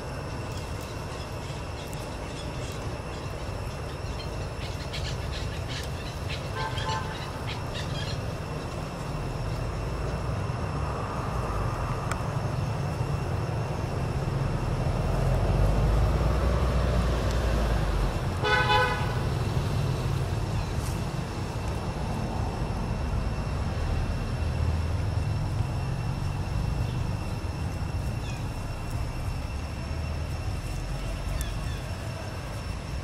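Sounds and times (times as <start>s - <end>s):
low rumble of traffic: 0.0s - 33.0s.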